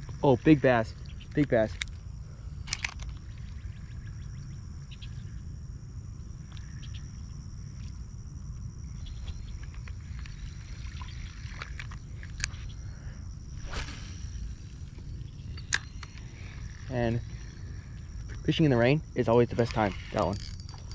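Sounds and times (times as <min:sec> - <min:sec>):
crickets droning: 0:00.0 - 0:20.9.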